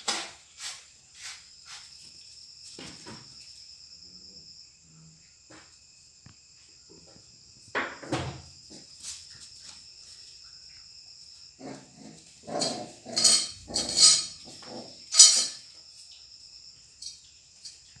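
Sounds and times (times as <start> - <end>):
insects chirring: 0.1 - 18.0.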